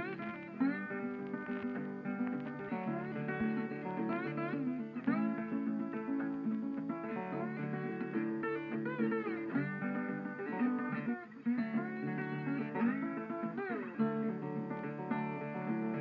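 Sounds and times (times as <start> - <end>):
guitar piece with sliding notes: 0.0 - 16.0.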